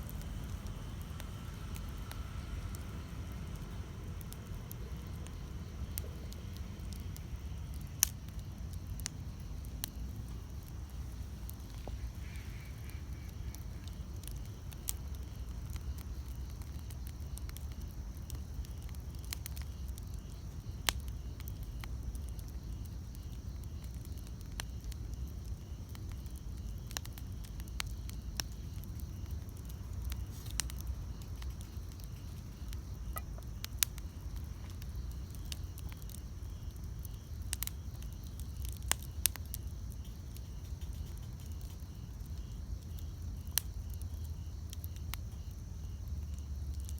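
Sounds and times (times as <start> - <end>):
campfire crackling pops: 0.0 - 46.9
low rumble of flames: 0.0 - 46.9.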